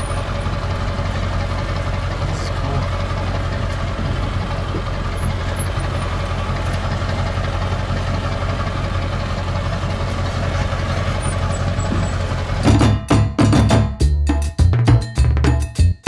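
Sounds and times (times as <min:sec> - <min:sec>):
truck engine low drone: 0:00.0 - 0:15.2.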